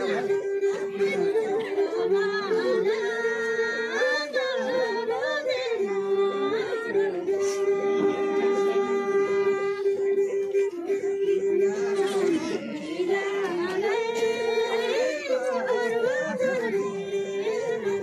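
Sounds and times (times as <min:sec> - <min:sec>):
women singing in unison: 0:00.0 - 0:18.0.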